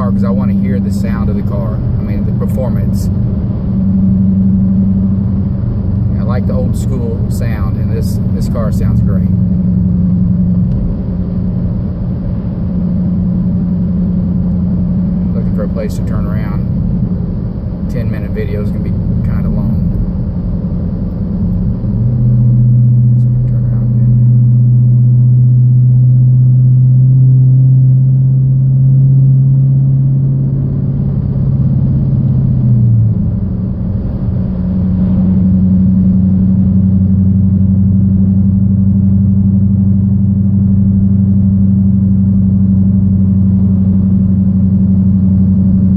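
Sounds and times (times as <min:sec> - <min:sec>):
car exhaust low note: 0:00.0 - 0:45.9.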